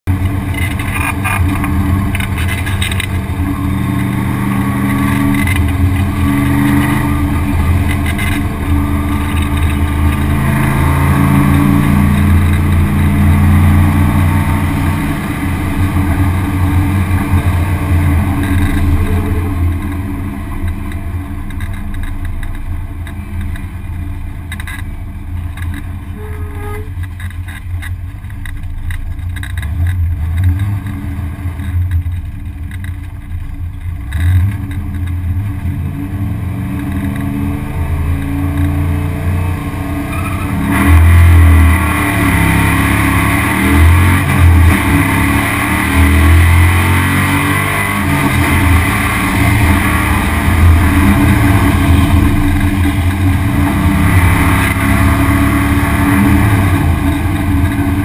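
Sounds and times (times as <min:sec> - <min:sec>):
race car engine accelerating: 0:00.1 - 0:23.7, 0:34.1 - 0:58.0.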